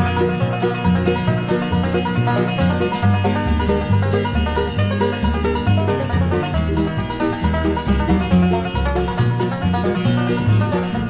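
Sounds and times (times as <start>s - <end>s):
banjo: 0.0s - 11.0s
bass line: 0.0s - 11.0s
guitar: 0.0s - 11.0s.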